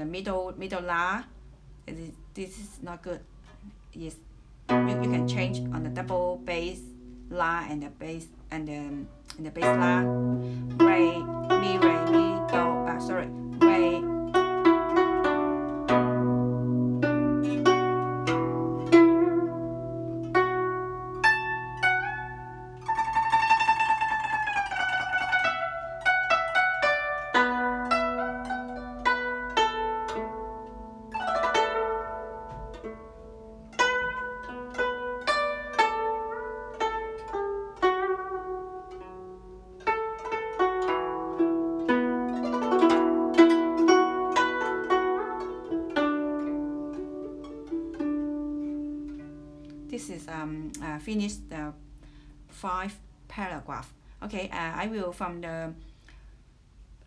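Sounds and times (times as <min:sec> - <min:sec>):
guzheng plucked melody: 0:04.6 - 0:53.9.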